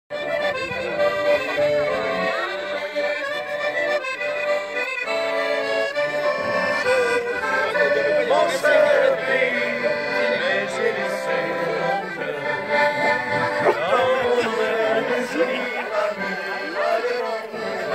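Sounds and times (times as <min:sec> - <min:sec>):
accordions playing a tune: 0:00.1 - 0:17.9.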